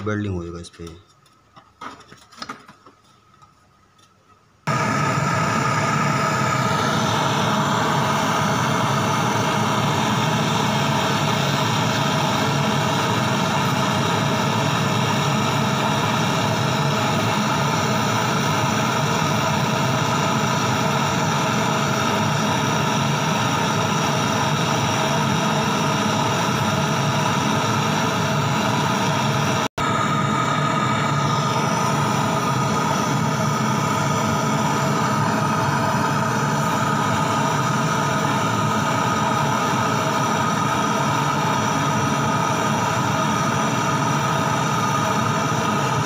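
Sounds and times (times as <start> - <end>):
gas torch burning: 4.6 - 46.0.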